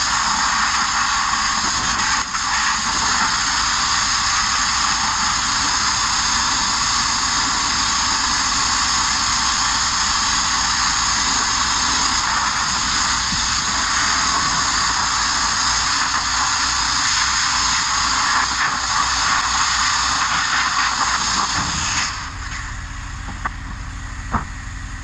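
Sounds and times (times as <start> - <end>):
media blaster hissing: 0.0 - 25.0.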